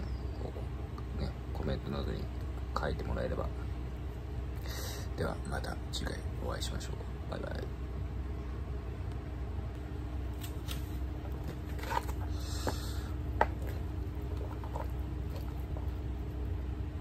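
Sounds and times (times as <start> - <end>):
faint hum tone: 0.0 - 17.0
low room hum: 0.0 - 17.0.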